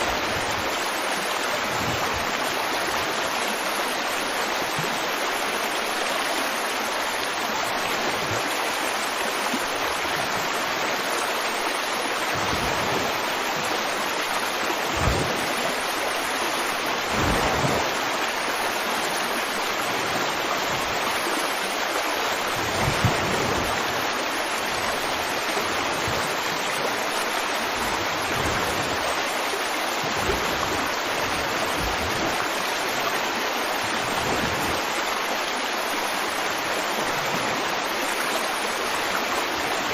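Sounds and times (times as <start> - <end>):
deep water gurgling: 0.0 - 5.1, 7.2 - 35.7
river water rushing: 0.0 - 39.9.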